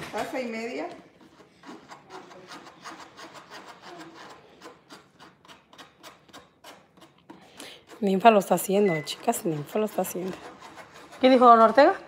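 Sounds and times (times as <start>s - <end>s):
spoon scraping a wire sieve: 0.4s - 12.0s.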